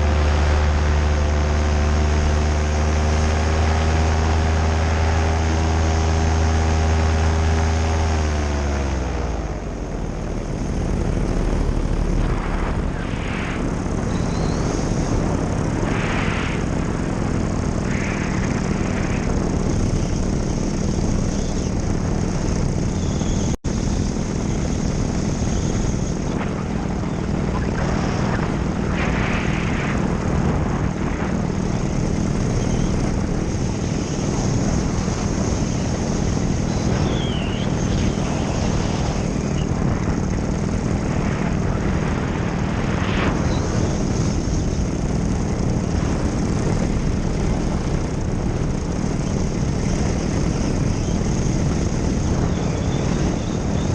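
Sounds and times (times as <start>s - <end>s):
paramotor engine running: 0.0s - 53.9s
wind rushing over microphone: 0.0s - 53.9s.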